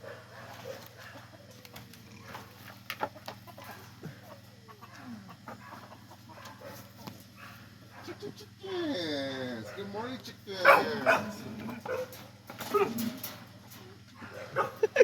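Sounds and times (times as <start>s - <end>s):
chickens clucking: 0.0s - 8.6s, 10.6s - 15.0s.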